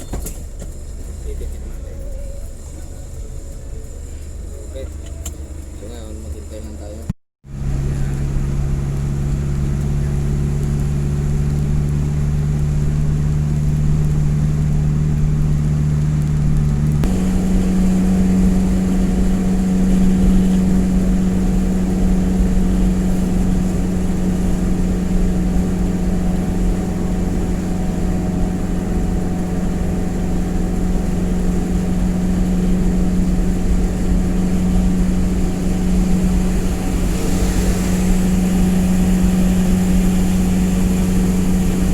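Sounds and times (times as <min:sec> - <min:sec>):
truck engine idling: 0:00.0 - 0:41.9.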